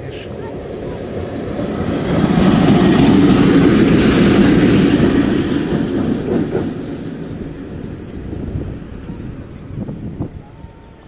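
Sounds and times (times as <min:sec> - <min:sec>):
electric locomotive passing: 0:00.0 - 0:11.0.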